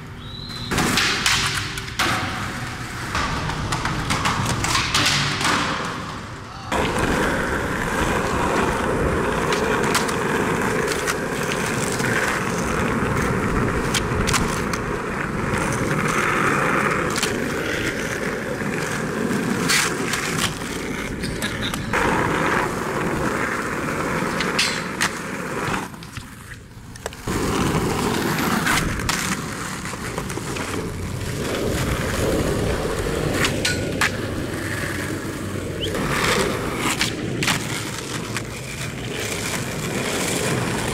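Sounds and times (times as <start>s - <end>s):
skateboard wheels rolling on asphalt: 0.0s - 40.9s
skateboard clacks: 0.4s - 40.9s.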